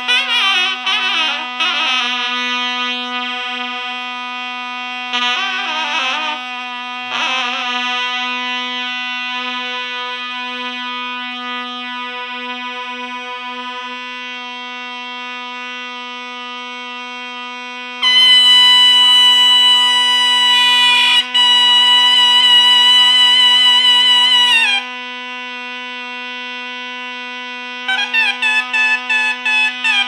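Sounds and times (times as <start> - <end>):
zurna melody: 0.0 - 17.1, 18.0 - 25.5, 27.7 - 30.0
zurna drone: 0.0 - 30.0.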